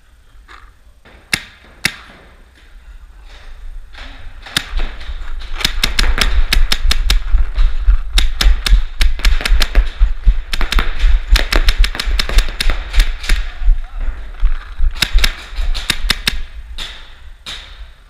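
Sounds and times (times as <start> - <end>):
paintball markers firing: 1.1 - 2.4, 3.9 - 13.8, 14.4 - 17.9
heavy low rumble: 2.8 - 17.4.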